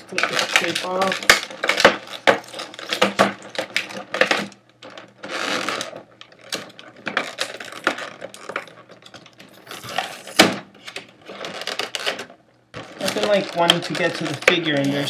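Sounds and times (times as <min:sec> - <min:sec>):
plastic packaging crinkling: 0:00.0 - 0:15.0
sharp plastic clicks and crackles: 0:00.0 - 0:15.0
sharp plastic crack: 0:00.0 - 0:15.0.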